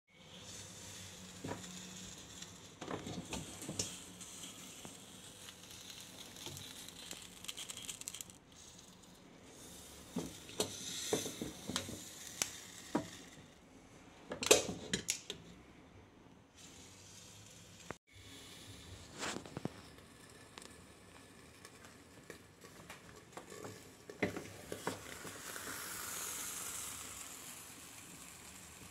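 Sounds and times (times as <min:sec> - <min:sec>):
peppers sizzling on hot stone: 0:00.2 - 0:13.6, 0:16.6 - 0:28.9.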